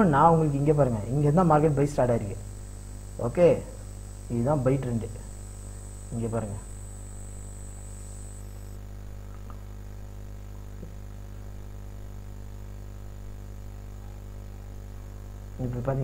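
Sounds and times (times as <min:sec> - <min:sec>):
electrical mains hum with hiss: 0:00.0 - 0:16.0.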